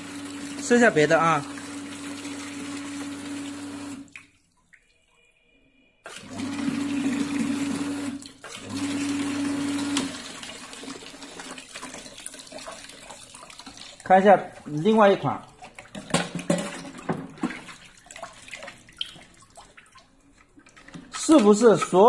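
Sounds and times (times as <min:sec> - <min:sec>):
water rushing into tank: 0:00.0 - 0:05.0, 0:06.1 - 0:22.0.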